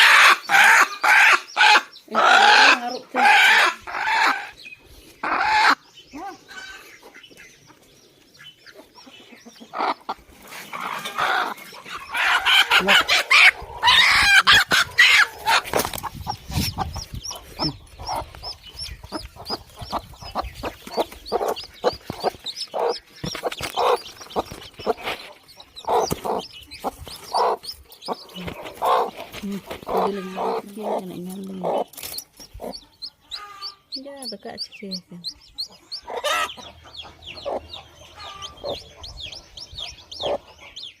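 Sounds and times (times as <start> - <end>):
chickens clucking: 0.0 - 41.0
chicks peeping: 0.0 - 41.0.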